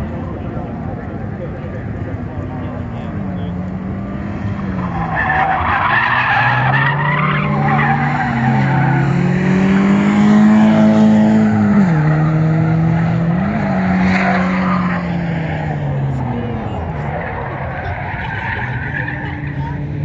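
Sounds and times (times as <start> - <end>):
car engine revving: 0.0 - 20.0
tires squealing: 0.1 - 20.0.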